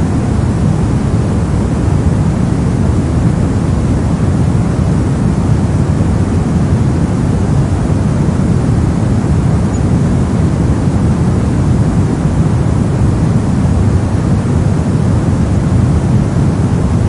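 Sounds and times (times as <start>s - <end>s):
brown noise: 0.0s - 17.0s.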